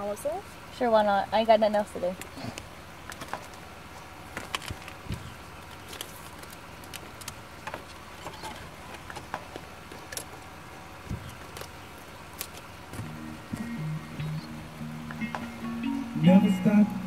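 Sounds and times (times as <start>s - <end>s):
car cabin hum: 0.0s - 17.0s.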